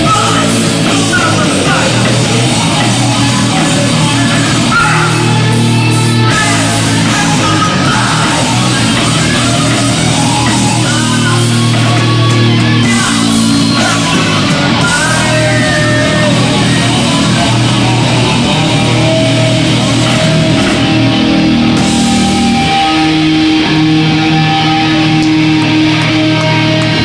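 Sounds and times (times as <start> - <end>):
distorted electric guitars: 0.0 - 27.0
hardcore band playing live: 0.0 - 27.0.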